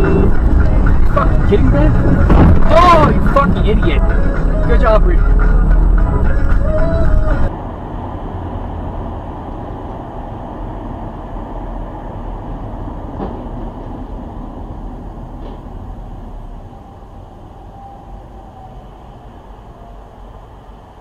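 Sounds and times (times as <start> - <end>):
low engine rumble: 0.0 - 21.0
road and tyre noise: 0.0 - 21.0.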